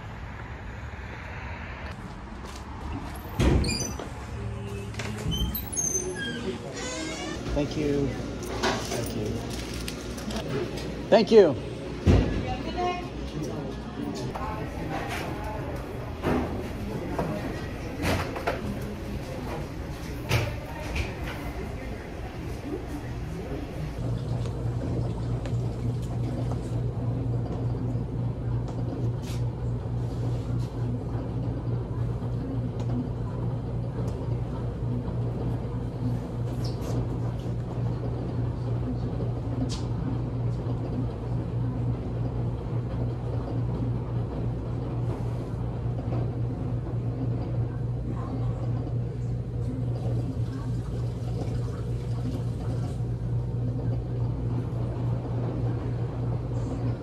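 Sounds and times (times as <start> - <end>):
laundry machines humming: 1.9 - 57.0.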